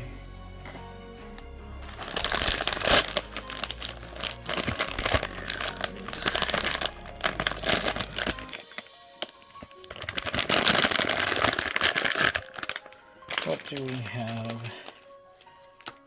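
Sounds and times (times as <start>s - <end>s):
plastic packaging crinkling: 1.8s - 16.0s.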